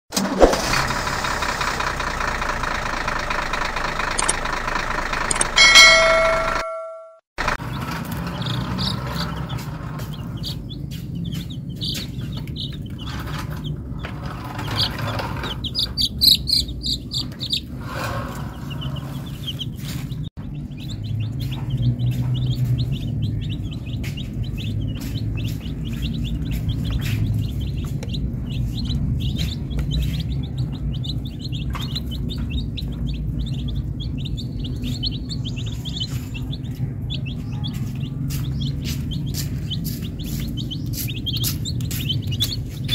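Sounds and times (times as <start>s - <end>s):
chicks peeping: 7.5s - 42.9s.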